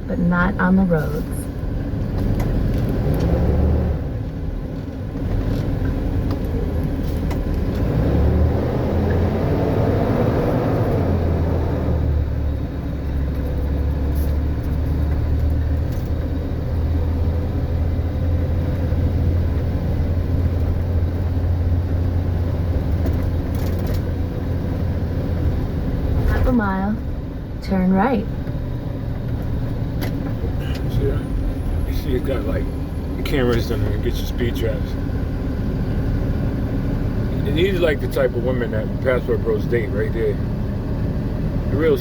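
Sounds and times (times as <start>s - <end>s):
car engine: 0.0s - 42.0s
road noise: 0.0s - 42.0s.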